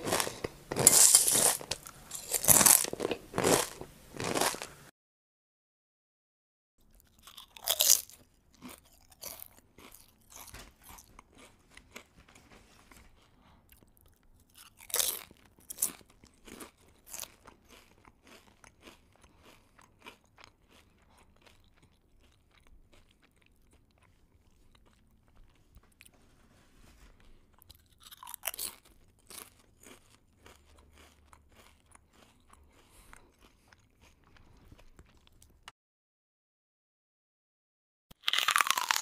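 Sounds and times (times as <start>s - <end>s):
person chewing crunchy food: 0.0s - 4.9s, 6.8s - 12.2s, 12.9s - 35.7s, 38.1s - 39.0s.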